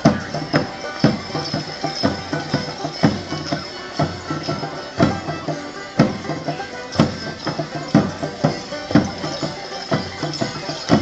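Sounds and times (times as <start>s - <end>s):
drum beating steady pulse: 0.0s - 11.0s
folk band playing dance tune: 0.0s - 11.0s.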